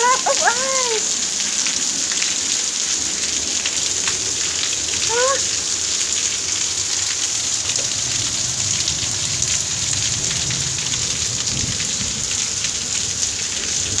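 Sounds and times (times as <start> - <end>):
hailstones ticking on hard surfaces: 0.0 - 14.0
rain hiss: 0.0 - 14.0.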